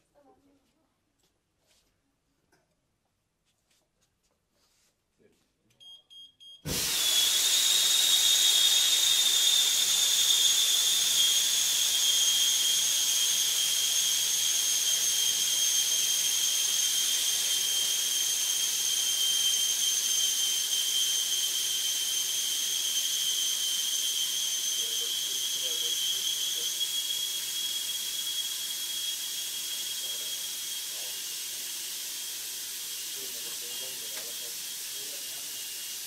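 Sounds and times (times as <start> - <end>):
gas discharge hissing and whistling: 6.7 - 36.0.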